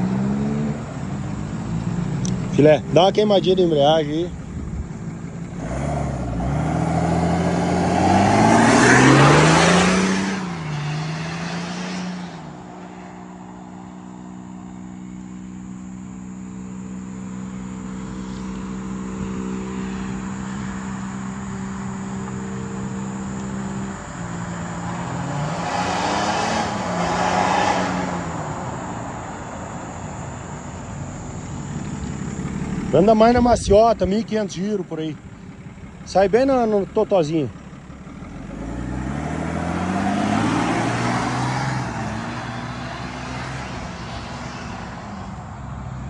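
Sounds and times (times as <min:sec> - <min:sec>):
diesel truck engine accelerating: 0:00.0 - 0:46.0.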